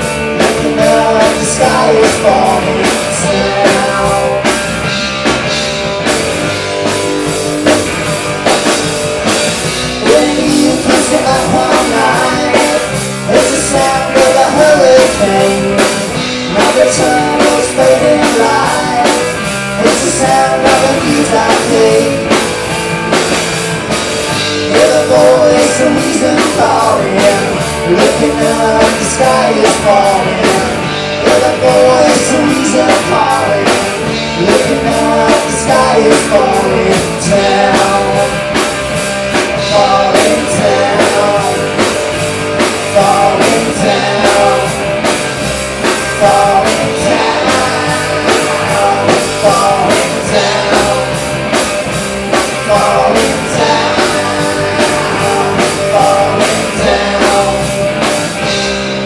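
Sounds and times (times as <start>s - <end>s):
lead vocal singing: 0.0s - 5.4s, 8.6s - 58.7s
bass guitar: 0.0s - 59.0s
drum kit: 0.0s - 59.0s
electric guitar: 0.0s - 59.0s.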